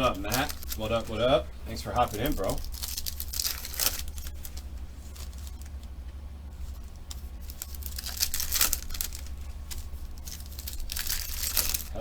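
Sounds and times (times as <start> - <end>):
wrappers crinkling and tearing: 0.0 - 5.9, 6.5 - 12.0
steady low hum: 0.0 - 12.0.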